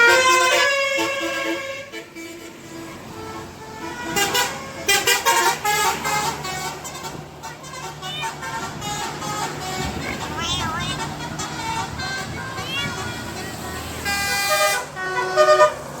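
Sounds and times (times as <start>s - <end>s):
bus musical horn: 0.0s - 16.0s
low engine hum: 0.8s - 16.0s.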